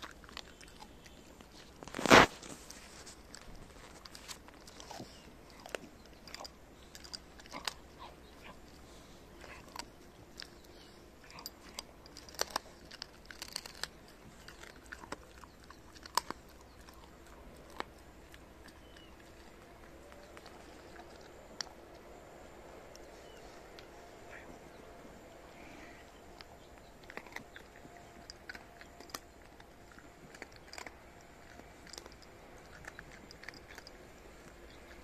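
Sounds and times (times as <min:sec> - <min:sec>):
dog crunching bones: 0:00.0 - 0:22.2, 0:26.2 - 0:35.0.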